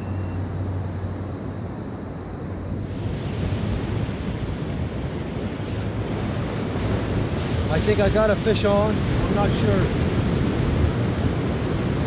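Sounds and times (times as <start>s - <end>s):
ocean surf washing on beach: 0.4s - 12.0s
wind buffeting microphone: 0.4s - 12.0s.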